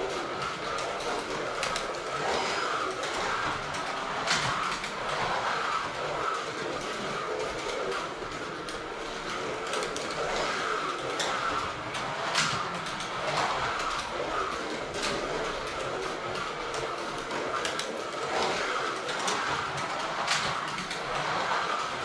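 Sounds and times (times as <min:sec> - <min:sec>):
slot car motors whining: 0:00.0 - 0:22.0
wheels rattling on plastic track: 0:00.0 - 0:22.0.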